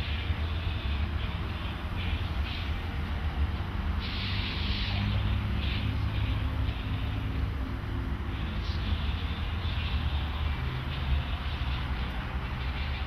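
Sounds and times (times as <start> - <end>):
city traffic rumble: 0.0 - 13.0
passing vehicles hissing: 0.0 - 13.0.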